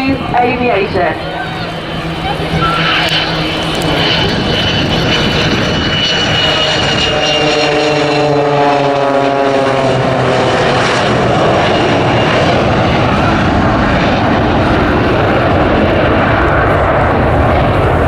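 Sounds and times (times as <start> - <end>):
airplane engines roaring: 0.0 - 18.0.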